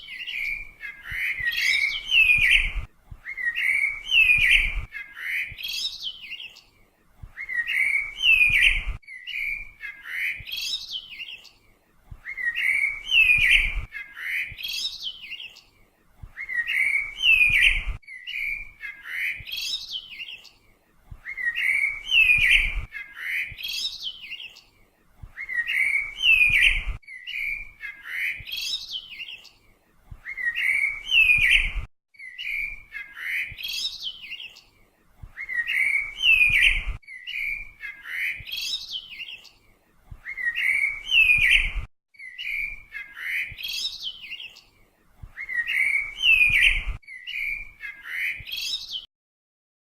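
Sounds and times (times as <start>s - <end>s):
bird chirping: 0.0s - 49.1s.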